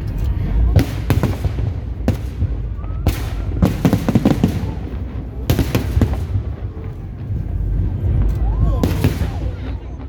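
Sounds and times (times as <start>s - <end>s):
fireworks bangs and crackles: 0.0s - 10.0s
low rumble: 0.0s - 10.0s.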